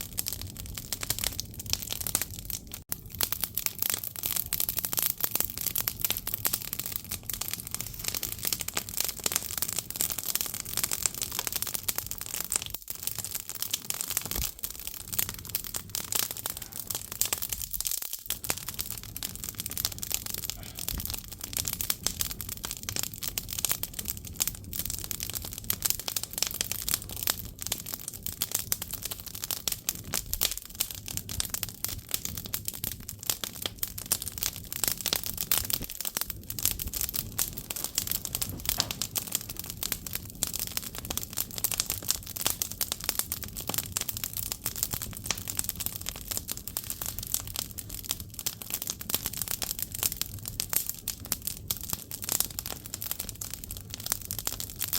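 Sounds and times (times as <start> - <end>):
firewood crackling: 0.0 - 54.9.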